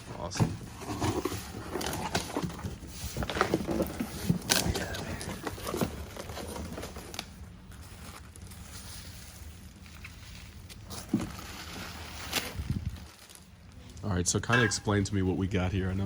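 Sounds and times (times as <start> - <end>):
packaging crinkling and rustling: 0.6 - 14.0.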